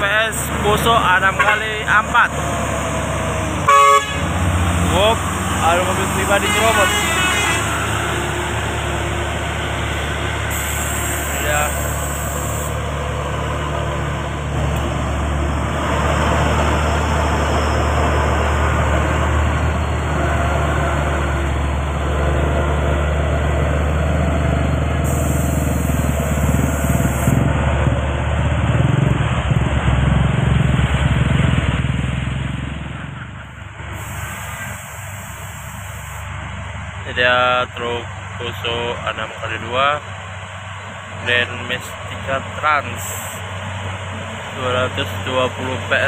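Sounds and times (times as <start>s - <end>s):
tyres hissing on road: 0.0s - 22.1s, 25.0s - 27.5s, 33.4s - 46.0s
diesel truck engine droning: 0.0s - 46.0s
traffic noise: 0.0s - 46.0s.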